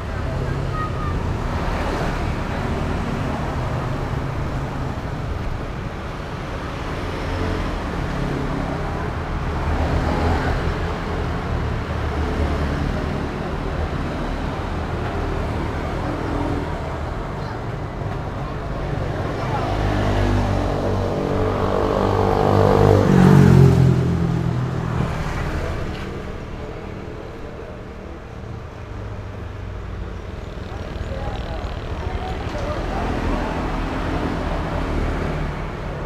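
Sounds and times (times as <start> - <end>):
street traffic: 0.0 - 36.0.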